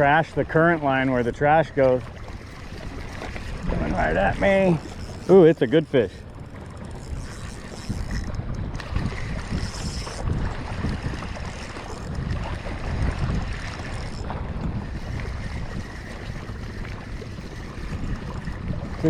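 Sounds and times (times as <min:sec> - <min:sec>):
water sloshing against boat: 0:00.0 - 0:19.0
wind buffeting microphone: 0:00.0 - 0:19.0.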